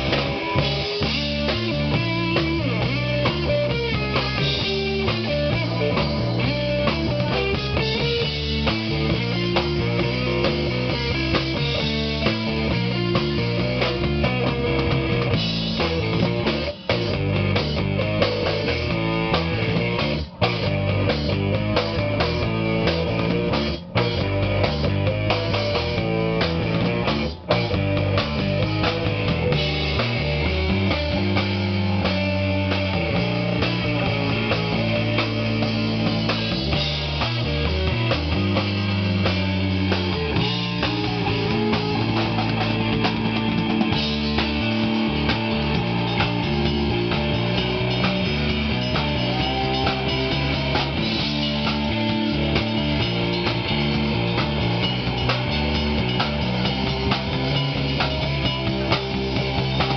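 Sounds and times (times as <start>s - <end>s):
rock music with guitar and drums: 0.0s - 59.9s.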